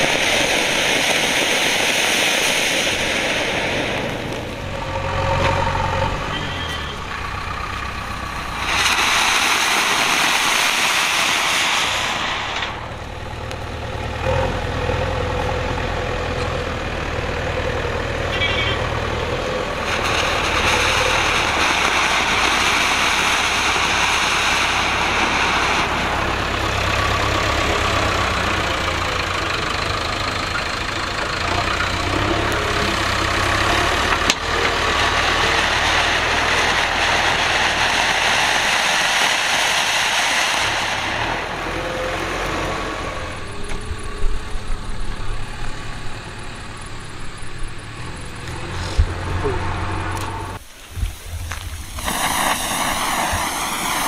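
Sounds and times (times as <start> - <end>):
firework fountain hissing: 0.0 - 5.2, 6.4 - 14.2, 18.3 - 45.9, 46.5 - 54.0.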